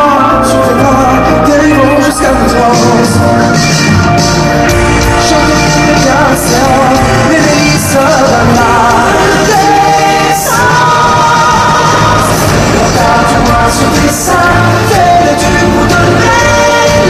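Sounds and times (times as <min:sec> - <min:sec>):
man singing: 0:00.0 - 0:03.6, 0:04.9 - 0:17.0
pop-rock band playing: 0:00.0 - 0:17.0.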